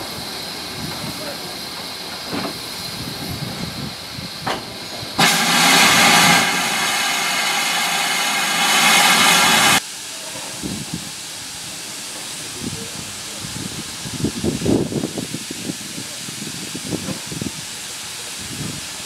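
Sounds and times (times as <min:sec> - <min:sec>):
steam locomotive hissing steam: 0:00.0 - 0:19.0.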